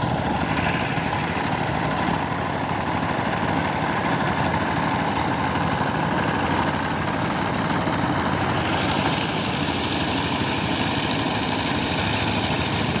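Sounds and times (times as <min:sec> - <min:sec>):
power tiller engine running: 0:00.0 - 0:13.0.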